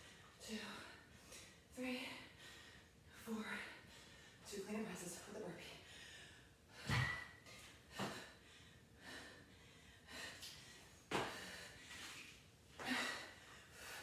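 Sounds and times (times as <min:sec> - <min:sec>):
woman breathing hard: 0:00.0 - 0:04.5, 0:05.6 - 0:14.0.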